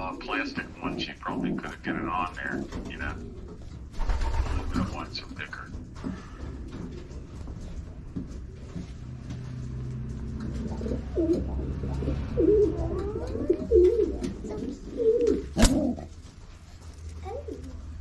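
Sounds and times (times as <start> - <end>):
pigeons cooing: 0.0 - 16.6.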